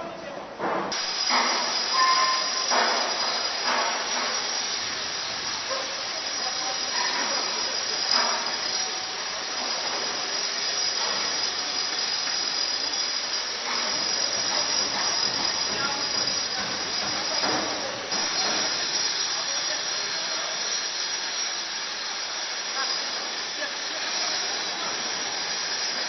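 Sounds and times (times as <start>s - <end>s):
steady hissing din: 0.9s - 26.0s.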